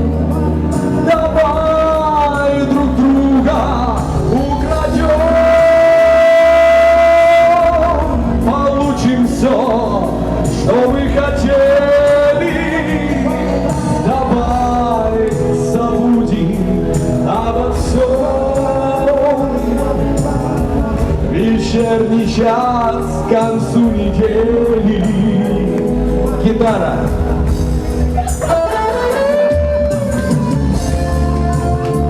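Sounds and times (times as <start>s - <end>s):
instrumental accompaniment: 0.0s - 32.0s
person singing pop song: 0.0s - 32.0s.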